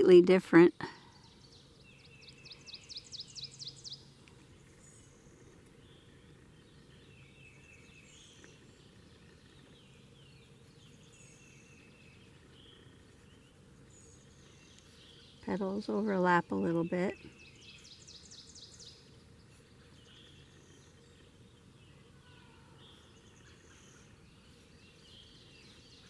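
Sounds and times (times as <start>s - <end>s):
faint distant bird chirps: 0.0s - 26.0s.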